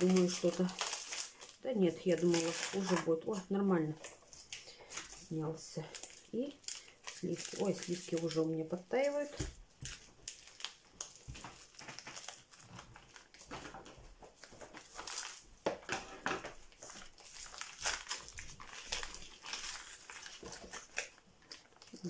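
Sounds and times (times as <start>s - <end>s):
plastic packet crinkling: 0.0s - 22.0s.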